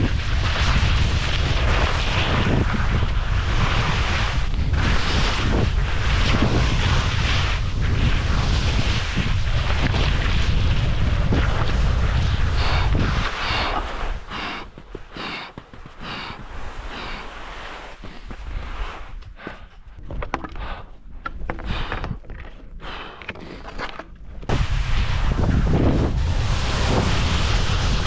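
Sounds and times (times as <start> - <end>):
skis scraping over snow: 0.0 - 19.8, 24.5 - 28.0
wind buffeting microphone: 0.0 - 23.0, 24.2 - 28.0.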